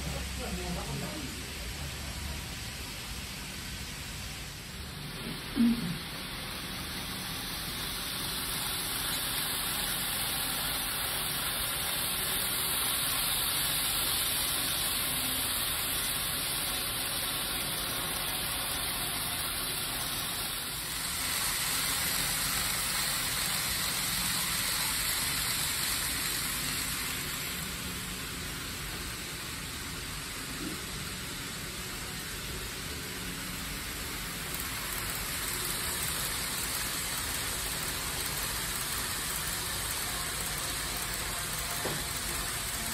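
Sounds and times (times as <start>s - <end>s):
model train running on track: 0.0s - 42.9s.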